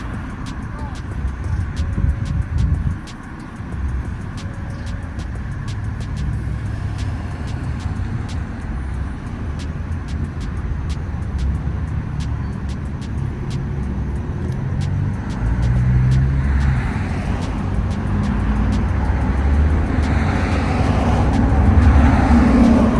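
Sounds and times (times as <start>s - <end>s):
car engines passing: 0.0s - 22.9s.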